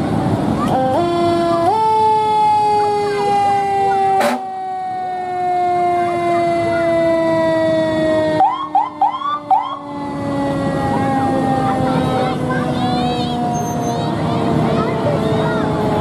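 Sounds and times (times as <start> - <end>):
fire engine siren wailing: 0.0 - 16.0
siren chirps: 0.7 - 16.0.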